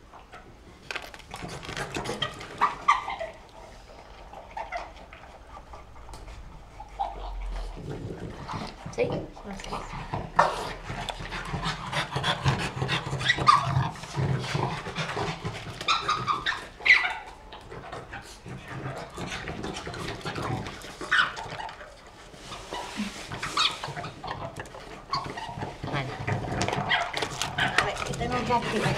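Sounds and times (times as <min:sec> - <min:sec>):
dog panting: 0:01.4 - 0:28.9.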